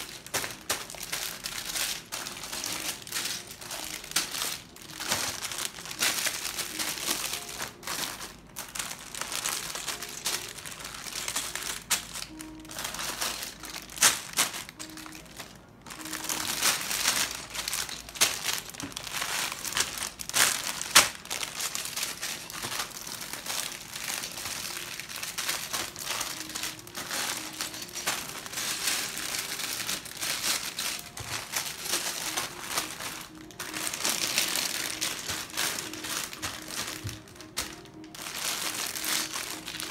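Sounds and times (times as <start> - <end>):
plastic bags crackling: 0.0 - 39.9
plastic bags crinkling and rustling: 0.0 - 39.9.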